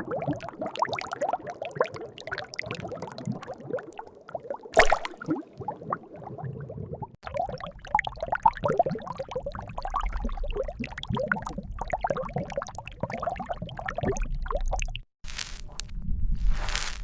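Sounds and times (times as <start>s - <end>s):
liquid pouring and gurgling: 0.0s - 15.0s.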